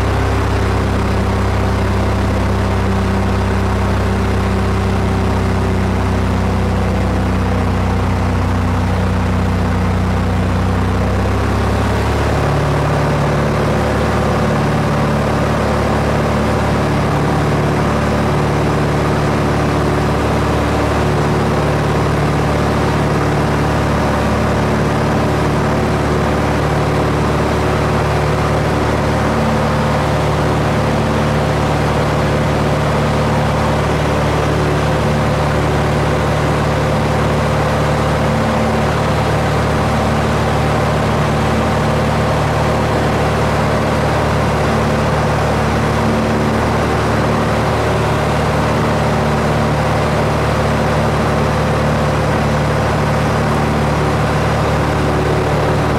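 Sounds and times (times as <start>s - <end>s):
aircraft engine droning: 0.0s - 55.9s.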